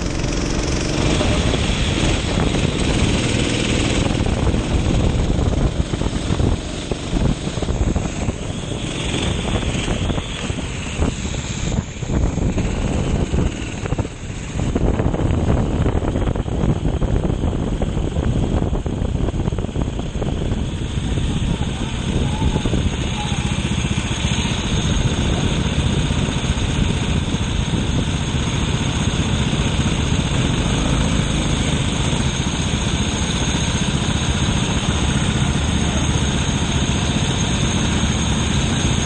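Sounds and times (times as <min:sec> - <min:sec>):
go-kart engine running hard: 0:00.0 - 0:39.0
noisy rushing: 0:00.0 - 0:39.0.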